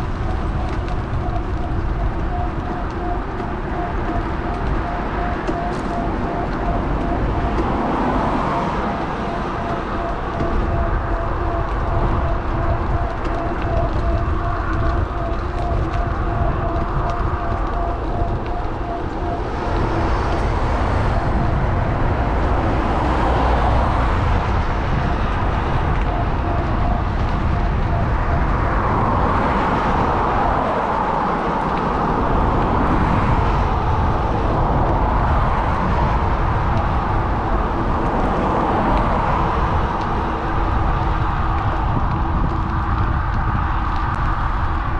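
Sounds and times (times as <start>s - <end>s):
road traffic: 0.0s - 44.9s
wind rumbling over microphone: 0.0s - 44.9s.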